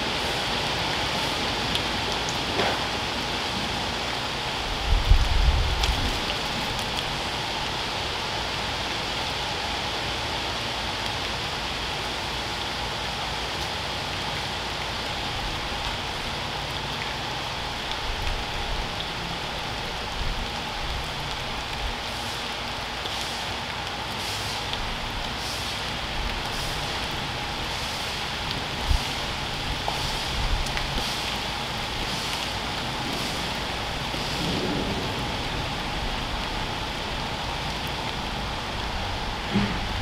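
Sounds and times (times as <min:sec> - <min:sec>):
rain on pavement: 0:00.0 - 0:40.0.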